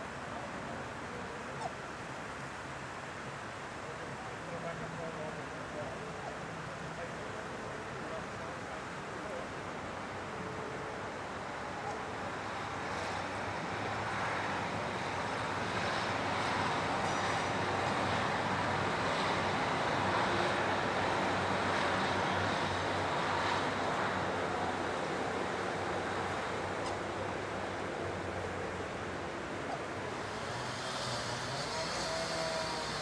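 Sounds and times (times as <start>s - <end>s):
steady outdoor rushing noise: 0.0s - 33.0s.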